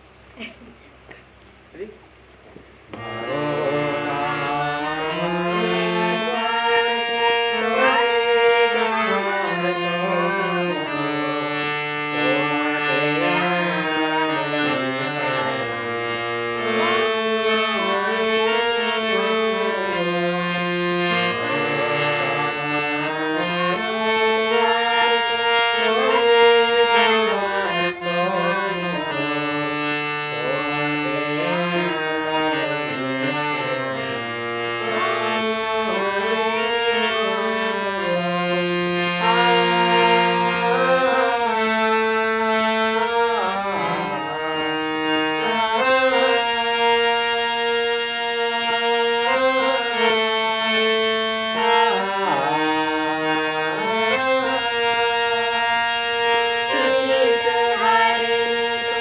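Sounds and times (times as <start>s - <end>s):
harmonium melody: 1.7s - 59.0s.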